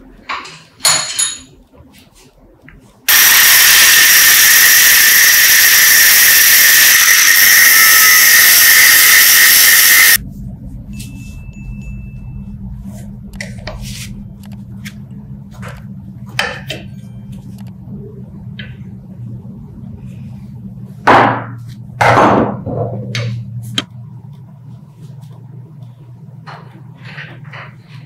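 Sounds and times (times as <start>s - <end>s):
steady low hum: 1.4s - 28.0s.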